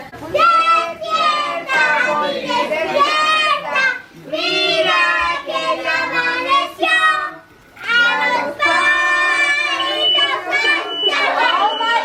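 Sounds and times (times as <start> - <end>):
young child singing: 0.3 - 12.0.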